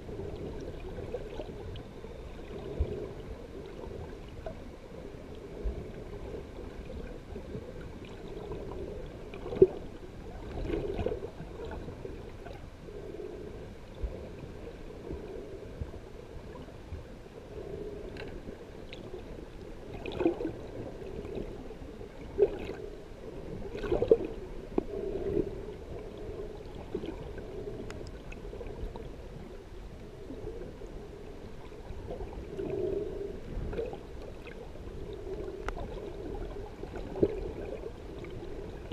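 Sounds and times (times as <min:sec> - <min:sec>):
muffled underwater murmur: 0:00.0 - 0:38.9.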